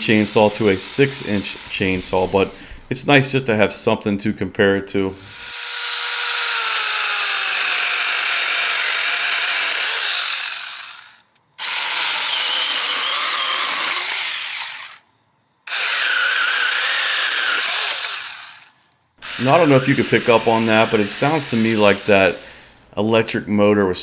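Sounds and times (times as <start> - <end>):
mini chainsaw cutting wood: 0.0 - 2.9, 5.2 - 15.0, 15.7 - 22.8.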